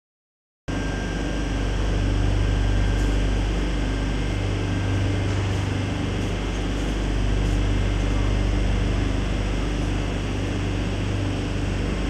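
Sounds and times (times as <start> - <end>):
train equipment hum: 0.7 - 12.0.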